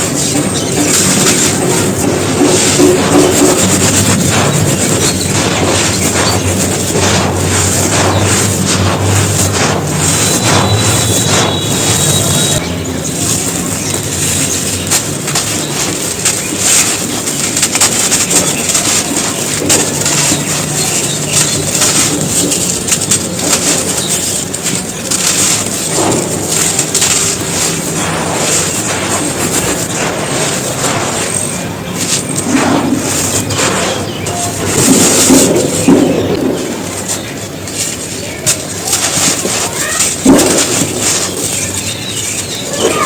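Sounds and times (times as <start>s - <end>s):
brick crumbling and crunching: 0.0s - 43.0s.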